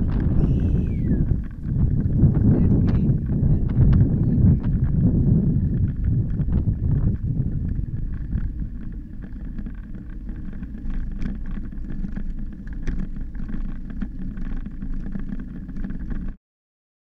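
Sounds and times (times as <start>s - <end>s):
wind buffeting microphone: 0.0s - 16.2s
bike rattling on brick paving: 0.0s - 16.4s.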